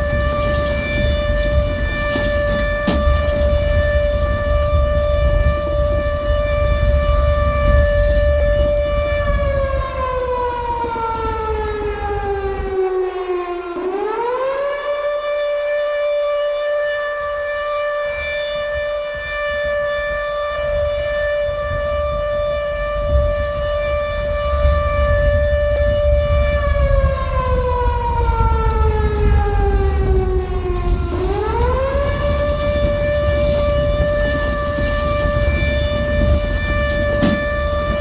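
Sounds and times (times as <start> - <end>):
civil defense siren wailing: 0.0 - 38.0.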